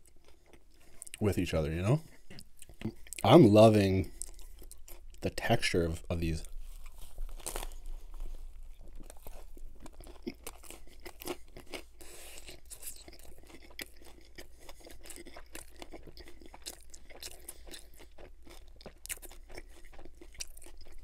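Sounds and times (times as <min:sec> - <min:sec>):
chewing a taco: 0:00.0 - 0:21.0.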